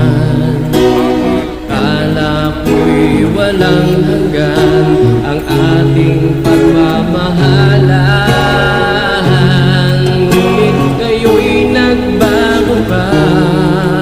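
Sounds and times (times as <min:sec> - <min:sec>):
slow pop ballad music: 0:00.0 - 0:14.0.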